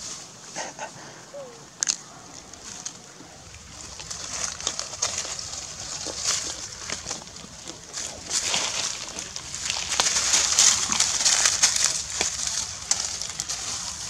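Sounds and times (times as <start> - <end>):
dry leaves crackling: 0.0 - 14.0.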